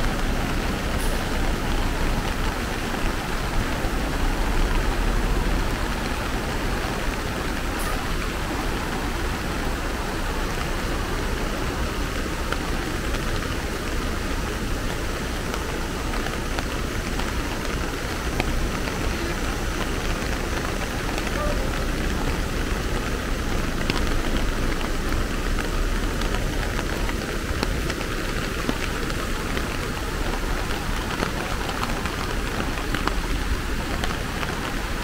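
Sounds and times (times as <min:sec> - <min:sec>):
flooding stream rushing: 0:00.0 - 0:35.0
heavy rain: 0:00.0 - 0:35.0.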